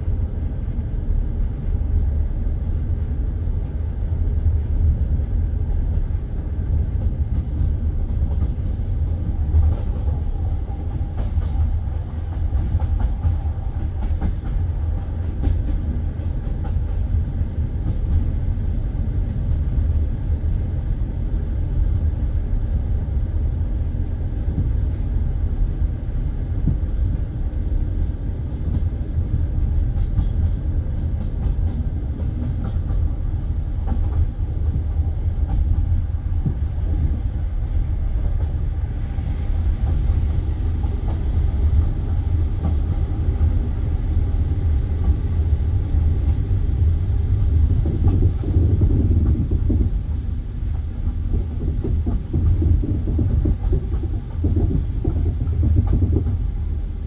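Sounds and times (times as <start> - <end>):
train carriage rumble: 0.0 - 57.0.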